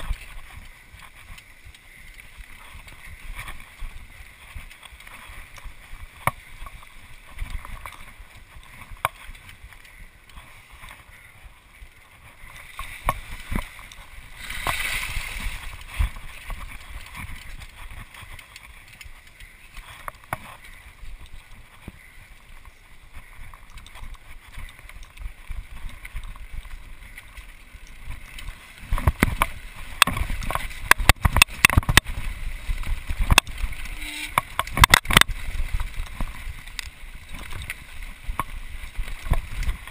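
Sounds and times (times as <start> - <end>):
bike rattling over bumps: 0.0 - 39.9
tyre and wind rumble: 0.0 - 39.9.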